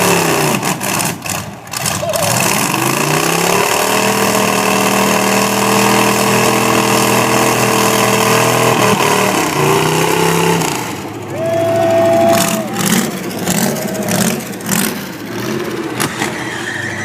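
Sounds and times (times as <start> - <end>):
truck engine revving high: 0.0 - 17.0.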